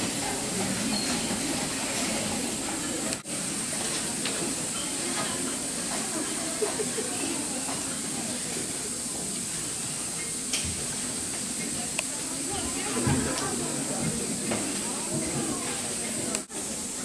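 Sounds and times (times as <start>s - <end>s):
faint indistinct voices: 0.0s - 17.0s.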